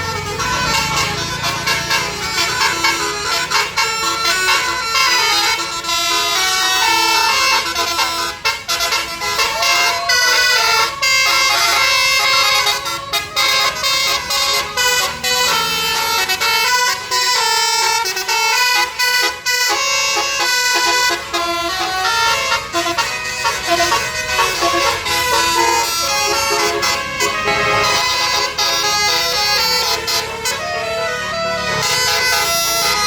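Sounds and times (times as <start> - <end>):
bus musical horn melody: 0.0 - 33.0.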